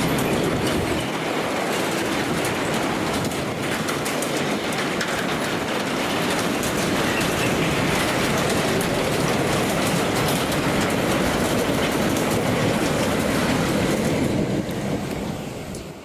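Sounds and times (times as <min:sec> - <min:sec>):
train passing close by: 0:00.0 - 0:16.0
wheels clattering over rail joints: 0:00.0 - 0:16.0.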